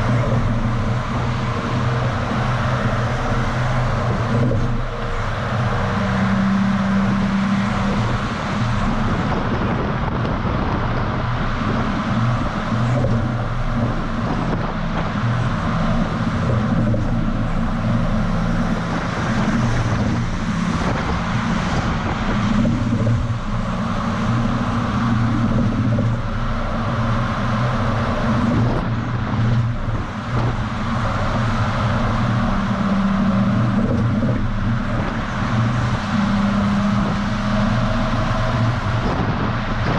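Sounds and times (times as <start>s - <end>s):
diesel truck engine hum: 0.0s - 39.9s
wind noise: 0.0s - 39.9s.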